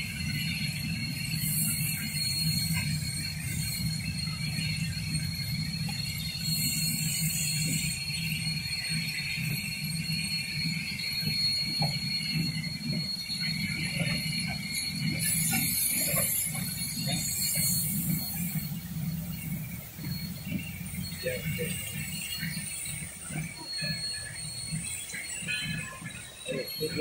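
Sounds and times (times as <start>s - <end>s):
steam hiss: 0.0s - 27.0s
train rumbling on rails: 0.0s - 27.0s.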